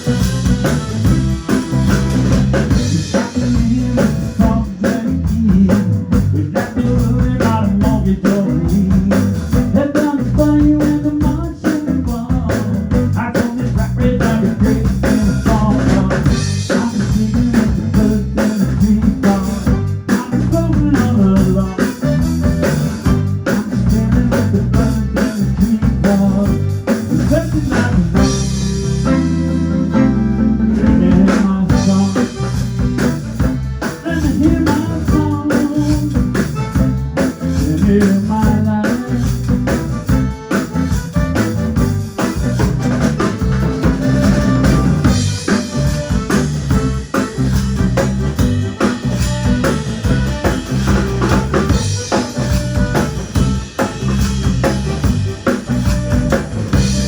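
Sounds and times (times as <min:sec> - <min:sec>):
band music: 0:00.0 - 0:57.0
drum kit beat: 0:00.0 - 0:57.0
guitar: 0:00.0 - 0:57.0.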